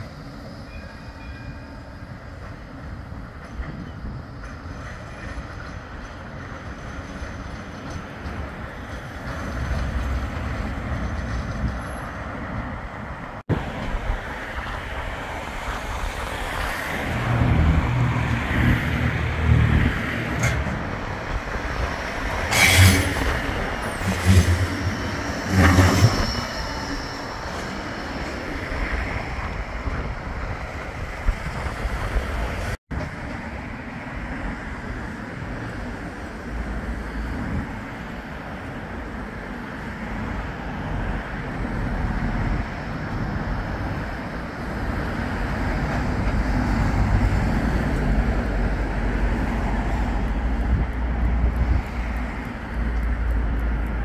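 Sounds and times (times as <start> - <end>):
road traffic passing: 5.8 - 54.0.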